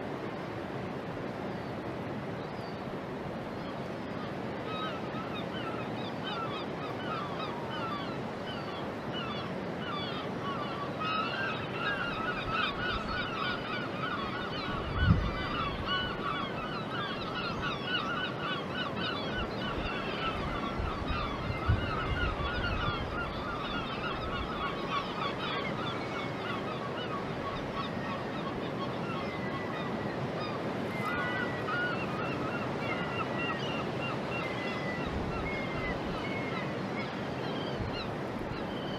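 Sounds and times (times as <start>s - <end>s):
flock of birds calling: 3.6s - 38.9s.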